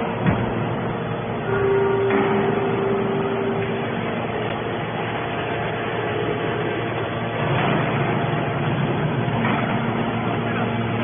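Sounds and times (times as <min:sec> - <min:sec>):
hydraulic baler hum: 0:00.0 - 0:11.0
low machine rumble: 0:00.0 - 0:11.0.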